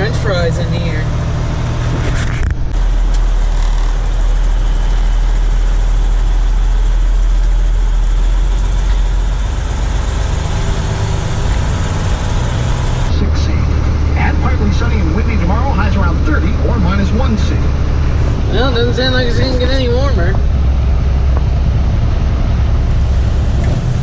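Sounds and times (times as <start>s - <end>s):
truck engine and road noise: 0.0s - 24.0s.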